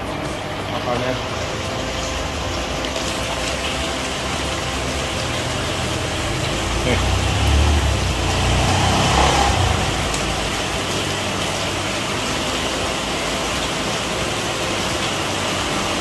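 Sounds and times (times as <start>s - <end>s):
water pouring into pond: 0.0s - 16.0s.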